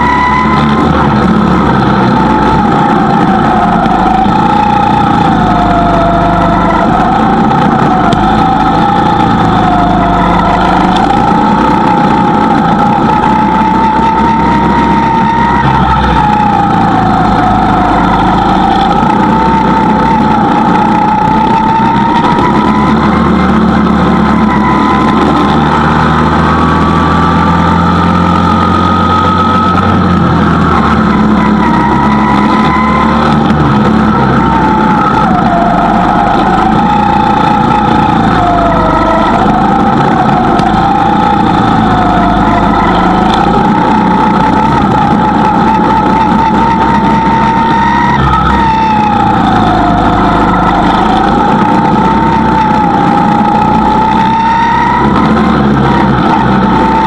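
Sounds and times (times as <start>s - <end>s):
go-kart engine whining: 0.0s - 57.0s.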